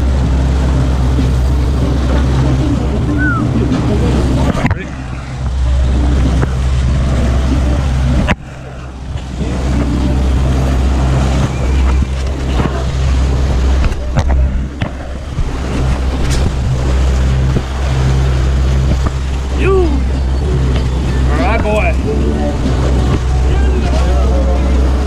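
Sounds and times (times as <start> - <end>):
churning wake water: 0.0 - 25.0
outboard motor running: 0.0 - 25.0
wind on microphone: 0.0 - 25.0.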